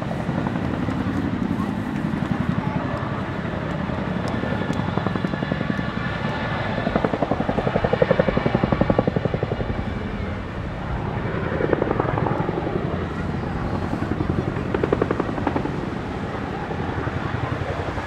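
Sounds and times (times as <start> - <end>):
helicopter rotor chop: 0.0 - 18.0.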